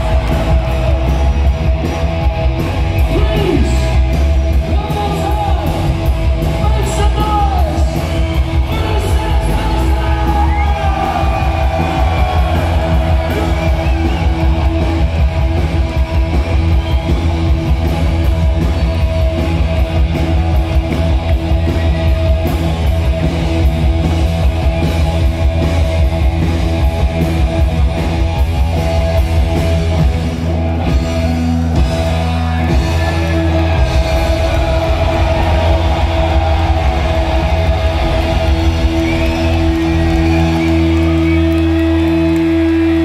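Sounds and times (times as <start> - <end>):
punk rock band playing: 0.0 - 43.0.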